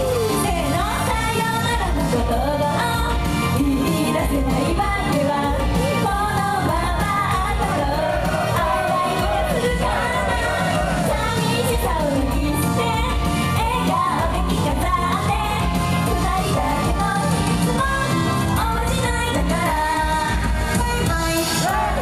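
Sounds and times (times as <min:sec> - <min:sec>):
backing track with steady beat: 0:00.0 - 0:22.0
women singing pop song: 0:00.0 - 0:22.0.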